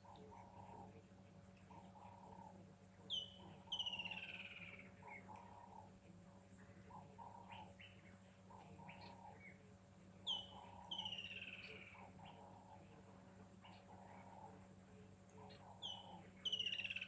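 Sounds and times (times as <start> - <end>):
loud buzzy bird calls: 1.7 - 5.9, 6.7 - 17.0.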